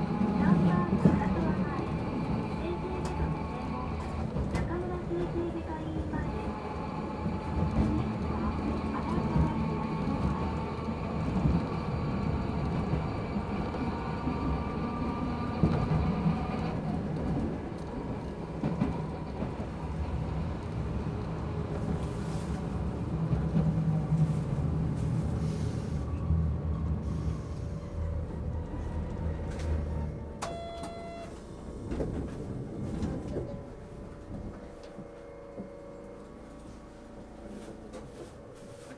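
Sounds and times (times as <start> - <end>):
wheels rumbling on track: 0.0 - 38.9.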